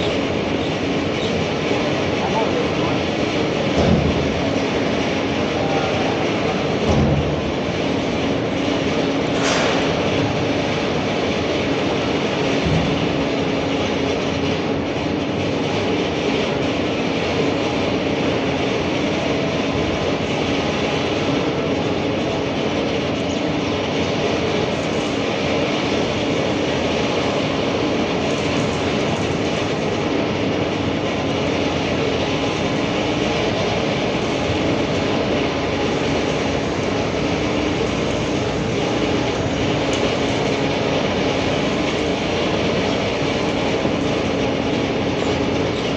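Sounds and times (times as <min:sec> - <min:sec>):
low machine hum: 0:00.0 - 0:45.9.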